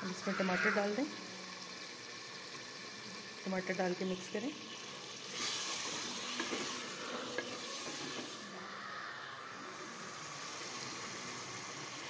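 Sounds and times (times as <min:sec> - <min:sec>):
food sizzling in oil: 0:00.0 - 0:08.7, 0:09.7 - 0:12.0.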